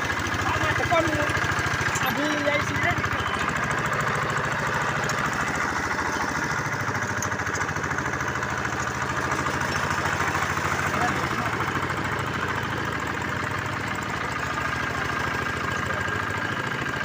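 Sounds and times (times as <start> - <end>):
drilling machine engine pulsing: 0.0 - 17.0.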